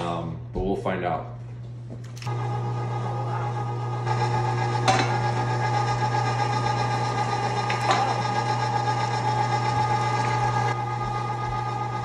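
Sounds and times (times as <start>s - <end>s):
electric meat grinder running: 2.2s - 12.0s.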